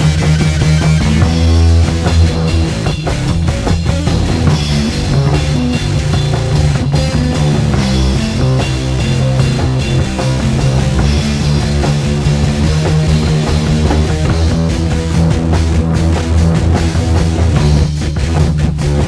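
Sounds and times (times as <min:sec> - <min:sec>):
drum kit: 0:00.0 - 0:19.0
electric guitar: 0:00.0 - 0:19.0
heavy bass line: 0:00.0 - 0:19.0.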